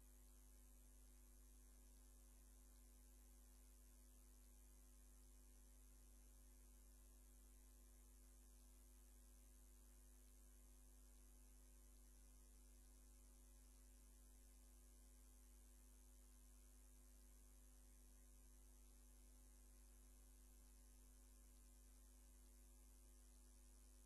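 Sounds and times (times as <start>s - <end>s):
faint steady hum and hiss: 0.0s - 24.0s.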